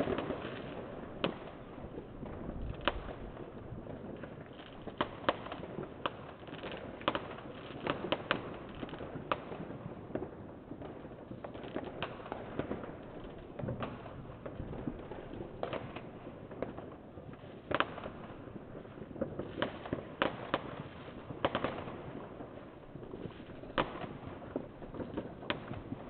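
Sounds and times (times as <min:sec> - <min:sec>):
distant fireworks bangs and pops: 0:00.0 - 0:26.0.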